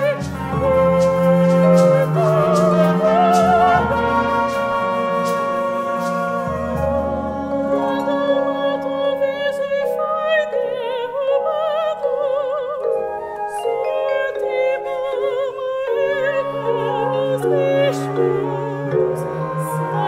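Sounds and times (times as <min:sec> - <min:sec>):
chamber ensemble low notes: 0:00.0 - 0:11.3, 0:13.0 - 0:20.0
women singing opera: 0:00.0 - 0:20.0.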